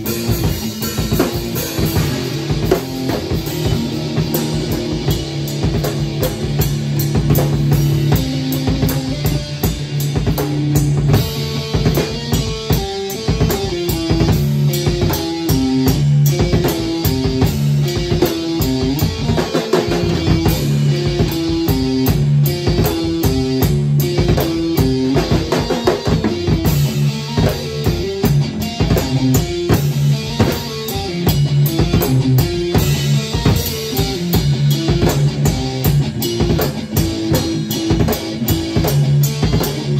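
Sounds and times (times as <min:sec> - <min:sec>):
drum kit beat: 0:00.0 - 0:39.9
electric guitar riff: 0:00.0 - 0:39.9.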